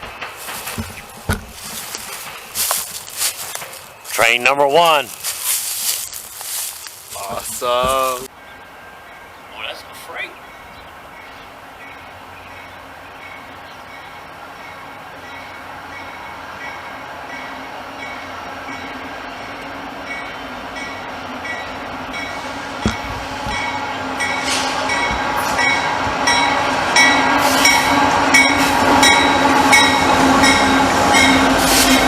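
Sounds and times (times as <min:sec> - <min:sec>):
diesel freight train: 0:00.0 - 0:32.0.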